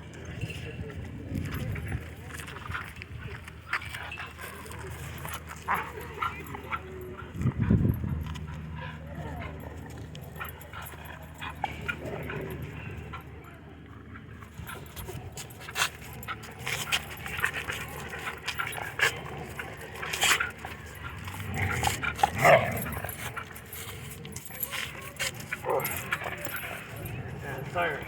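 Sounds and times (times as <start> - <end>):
dogs panting: 1.4 - 28.0
dogs barking and yipping: 3.8 - 28.0.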